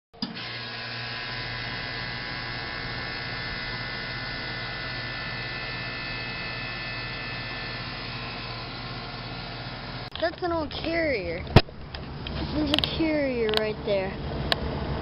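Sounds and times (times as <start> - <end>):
air conditioner compressor hum: 0.2 - 15.0
airy fan rush: 0.4 - 15.0.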